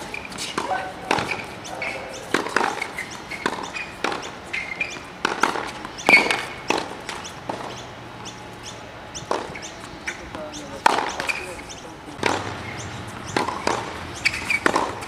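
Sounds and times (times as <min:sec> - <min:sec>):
tennis balls bouncing on a hard court: 0:00.0 - 0:15.0
tennis balls struck by rackets: 0:00.0 - 0:15.0.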